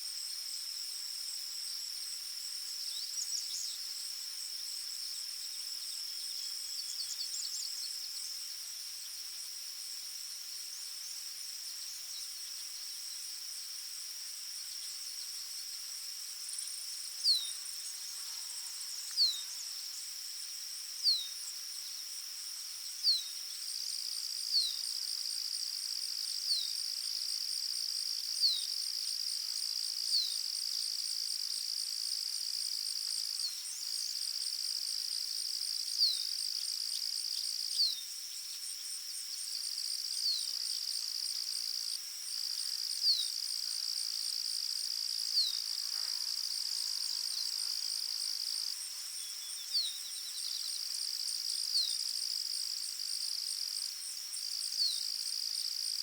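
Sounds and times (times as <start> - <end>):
insect chorus: 0.0 - 56.0.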